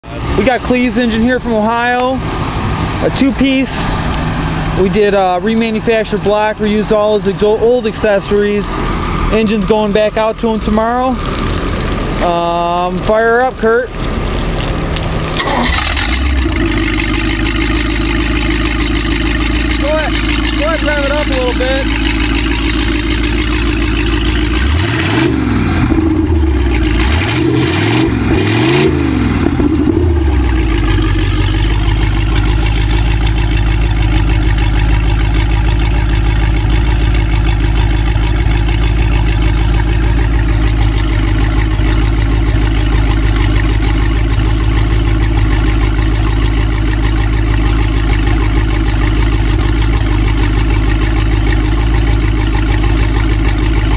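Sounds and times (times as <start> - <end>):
engine revving and idling: 0.0 - 53.9.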